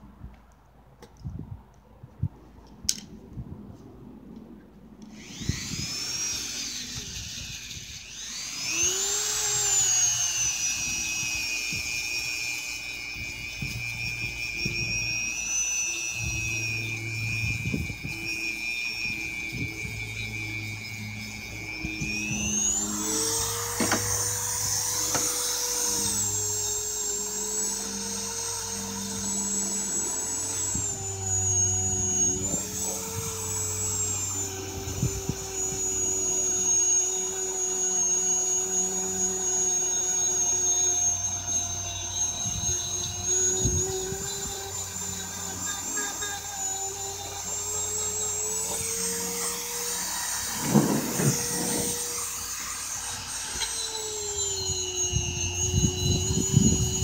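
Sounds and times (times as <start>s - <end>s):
rotary tool whining on stone: 5.0s - 57.0s.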